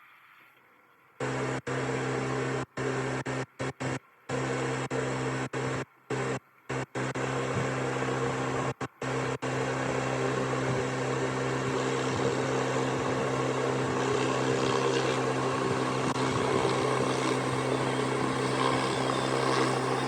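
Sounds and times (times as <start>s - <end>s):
pressure washer motor drone: 1.2s - 20.0s.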